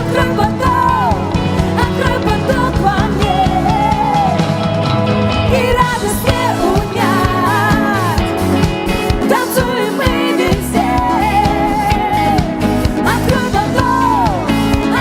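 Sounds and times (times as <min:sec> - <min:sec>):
live worship band music: 0:00.0 - 0:15.0
steady drum beat: 0:00.0 - 0:15.0.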